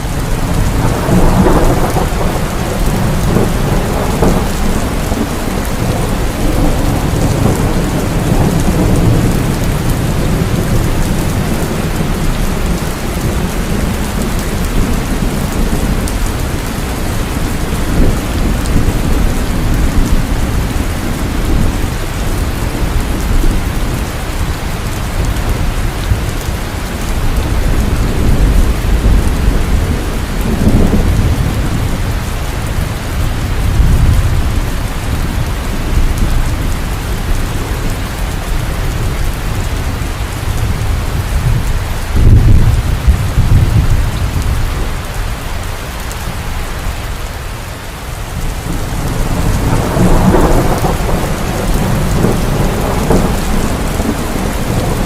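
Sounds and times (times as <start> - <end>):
thunder rumbling: 0.0 - 47.3, 48.0 - 55.0
heavy rainfall: 0.0 - 55.0.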